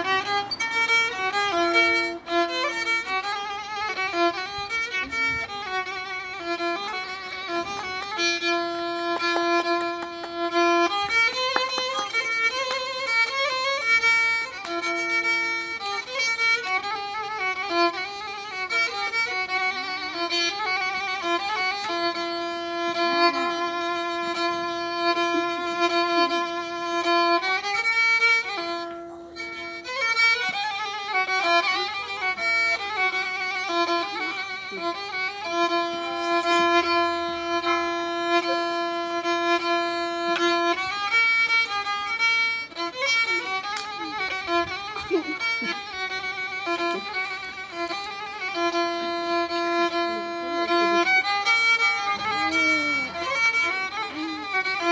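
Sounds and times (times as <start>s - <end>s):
solo violin: 0.0s - 54.9s.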